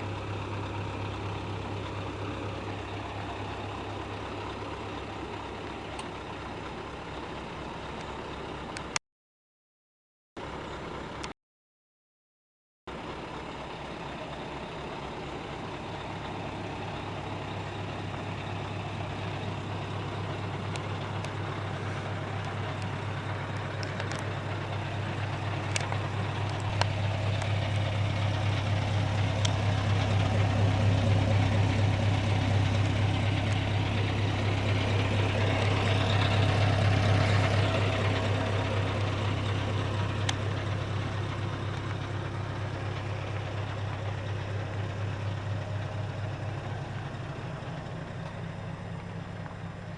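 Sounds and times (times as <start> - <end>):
diesel engine running at low revs: 0.0 - 9.0, 10.4 - 11.3, 12.9 - 49.9.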